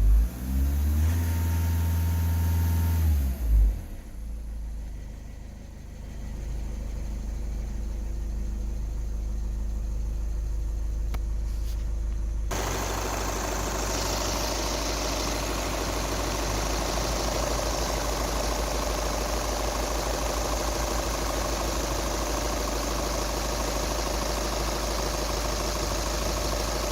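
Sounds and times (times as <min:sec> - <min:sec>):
vehicle engine idling: 0:01.3 - 0:26.9.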